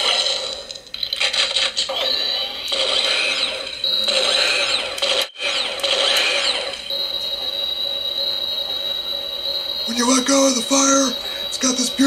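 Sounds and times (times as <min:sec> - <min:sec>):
toy electronic firing sound effect: 0:00.0 - 0:12.0.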